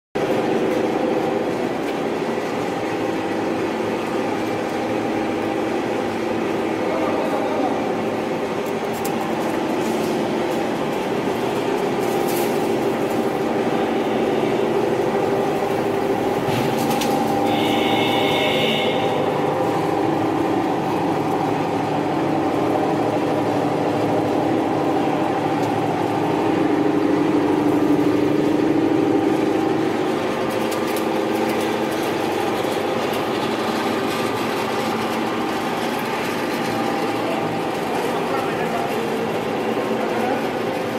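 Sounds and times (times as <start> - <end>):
screening plant mechanical drone: 0.2 - 40.9.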